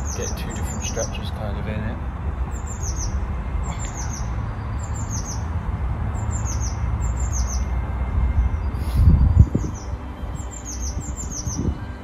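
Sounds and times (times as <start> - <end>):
garden birds chirping: 0.0 - 12.0
steady low rumble: 0.0 - 12.0.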